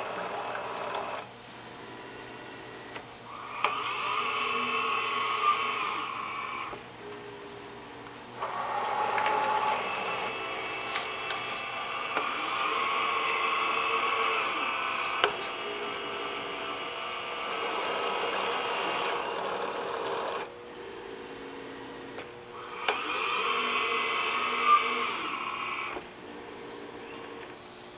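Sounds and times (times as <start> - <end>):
conveyor motors whirring: 0.0 - 27.9.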